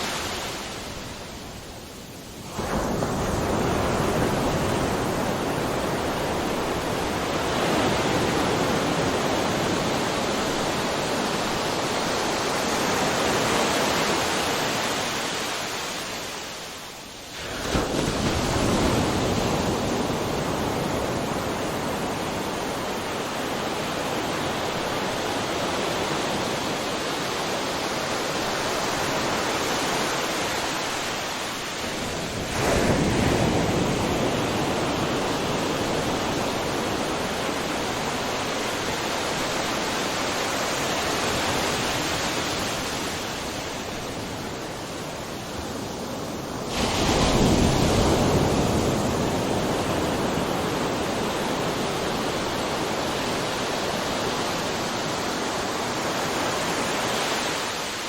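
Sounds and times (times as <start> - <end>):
ocean surf breaking: 0.0 - 1.6, 2.4 - 58.0.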